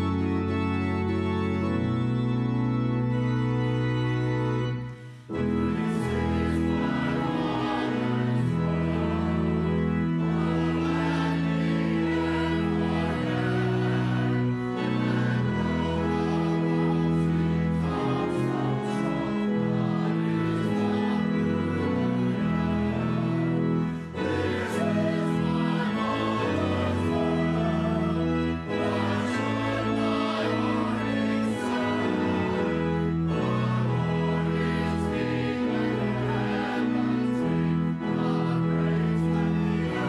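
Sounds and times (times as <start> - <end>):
congregation singing a hymn: 0.0 - 40.0
pipe organ: 0.0 - 40.0.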